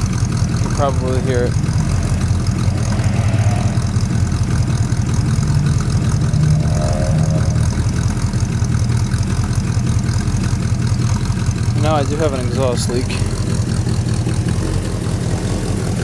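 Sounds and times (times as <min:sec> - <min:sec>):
engine idling with misfire: 0:00.0 - 0:16.0.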